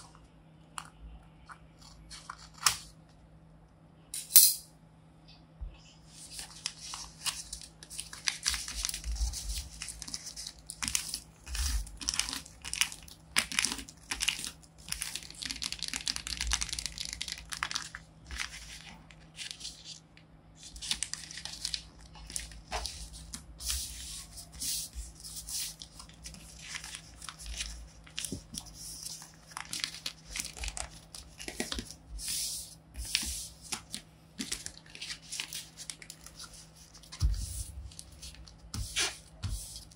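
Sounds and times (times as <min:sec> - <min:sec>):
paper crinkling and rustling: 0:01.5 - 0:03.0, 0:06.1 - 0:39.9.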